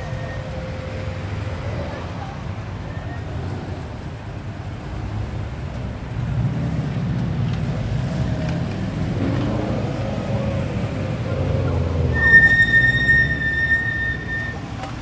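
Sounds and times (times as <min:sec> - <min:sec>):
car and motorcycle engines idling: 0:00.0 - 0:15.0.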